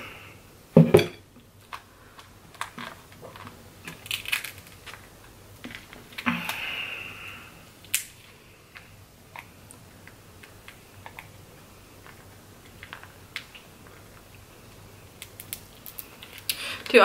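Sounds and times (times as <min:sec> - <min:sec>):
noisy hiss: 0:00.0 - 0:17.0
crab shells cracking: 0:01.5 - 0:06.7, 0:07.6 - 0:17.0.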